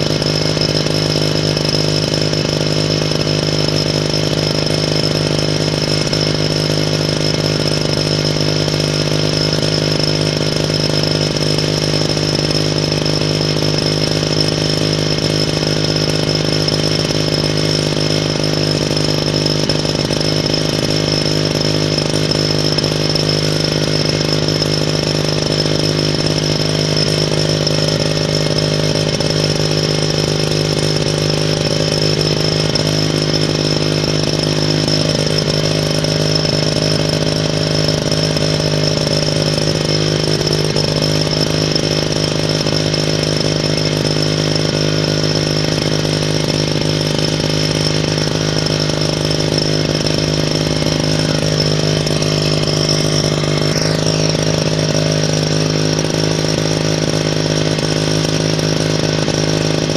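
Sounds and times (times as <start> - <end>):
two-stroke engine buzzing: 0.0 - 59.9.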